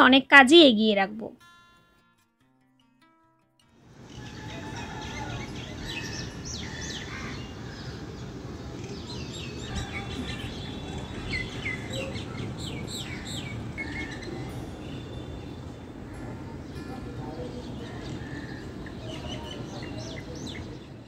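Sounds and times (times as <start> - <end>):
small birds chirping: 4.0 - 21.0.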